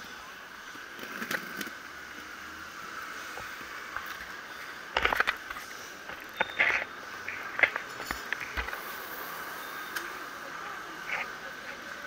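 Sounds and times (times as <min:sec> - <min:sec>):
street noise hiss: 0:00.0 - 0:12.0.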